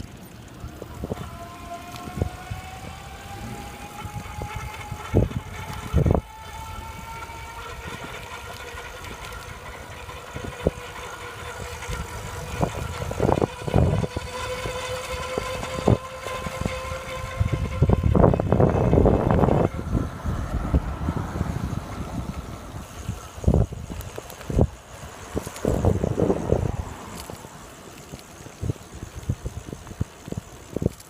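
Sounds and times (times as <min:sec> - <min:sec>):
electric bike motor whining: 0:00.0 - 0:31.0.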